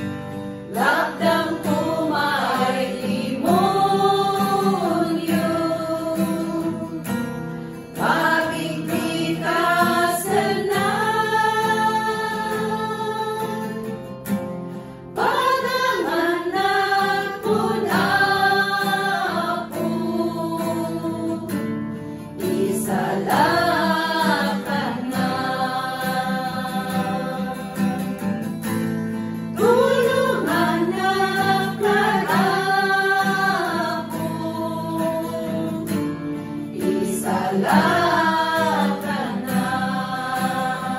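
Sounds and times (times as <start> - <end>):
strummed acoustic guitar: 0.0 - 40.9
women singing a hymn: 0.7 - 14.1, 15.1 - 28.3, 29.5 - 40.9.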